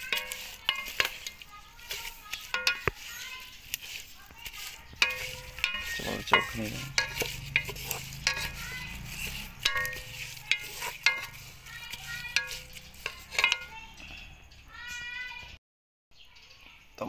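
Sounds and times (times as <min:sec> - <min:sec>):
food sizzling in hot oil: 0:00.0 - 0:14.0
spatula scraping metal pot: 0:00.0 - 0:14.0.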